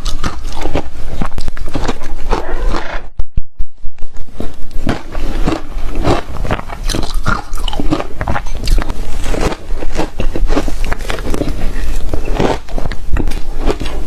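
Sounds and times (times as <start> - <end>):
ice crunching being chewed: 0.0 - 2.5, 4.4 - 14.0.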